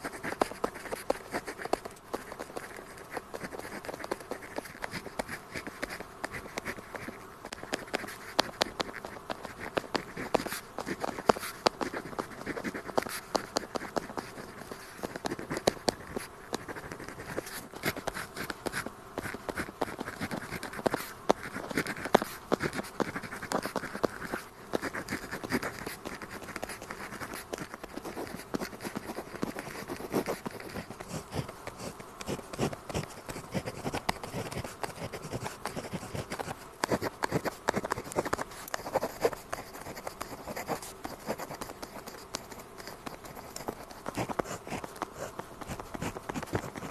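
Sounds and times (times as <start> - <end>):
pen scratching on paper: 0.0 - 46.9.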